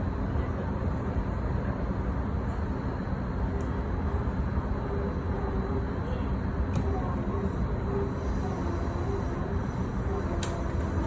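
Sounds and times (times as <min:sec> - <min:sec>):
train car low rumble: 0:00.0 - 0:11.0.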